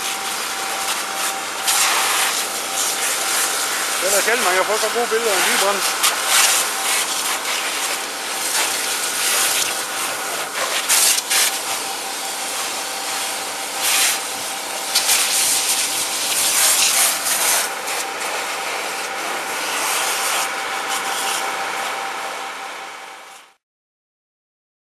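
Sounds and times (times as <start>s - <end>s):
fire hose spraying water: 0.0s - 22.7s.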